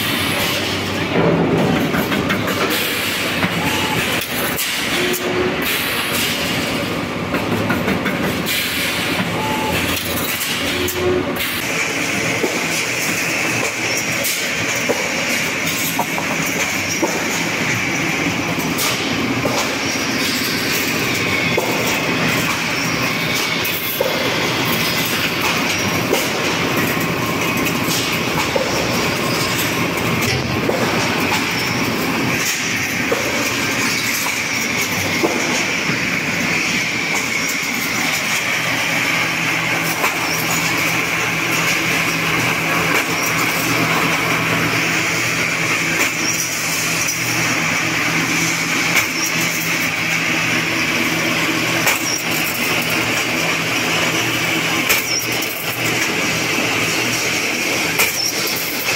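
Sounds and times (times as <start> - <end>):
wire machine rattling and whining: 0.0 - 58.9.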